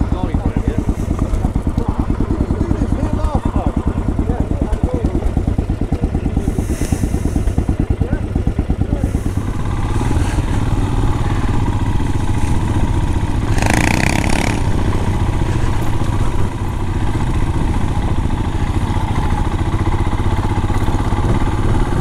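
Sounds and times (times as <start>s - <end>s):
motorcycle engine cruising: 0.0s - 22.0s.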